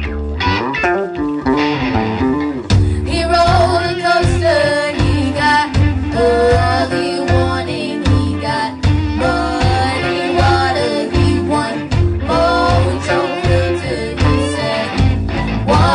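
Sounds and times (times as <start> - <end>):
drums and bass beat: 0.0 - 15.9
electric guitar single notes: 0.0 - 15.9
woman singing: 2.8 - 15.9.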